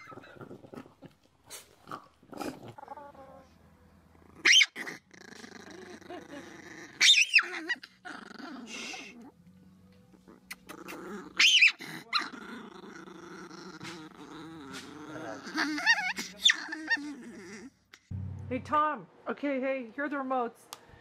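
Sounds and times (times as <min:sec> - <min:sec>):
dog growling: 0:00.0 - 0:09.4, 0:10.0 - 0:18.1.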